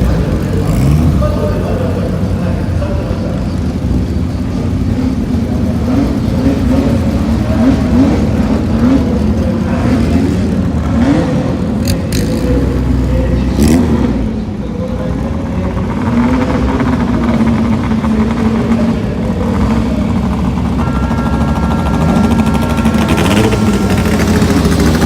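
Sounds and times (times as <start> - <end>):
racing car engine revving: 0.0 - 25.0.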